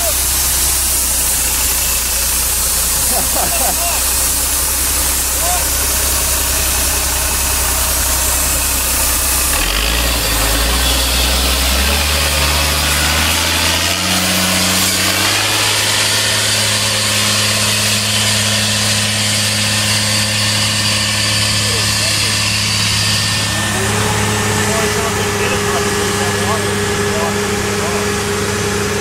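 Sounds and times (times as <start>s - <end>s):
diesel truck engine driving past: 2.3s - 29.0s.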